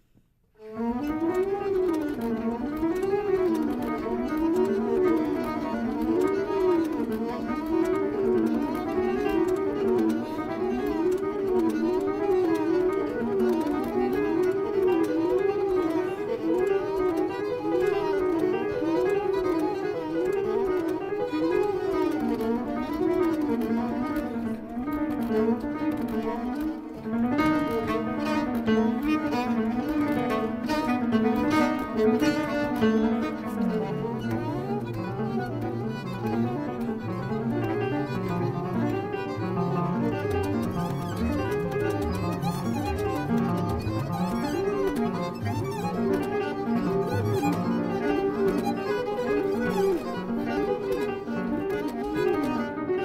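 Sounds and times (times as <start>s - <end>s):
violin playing: 0.6s - 53.0s.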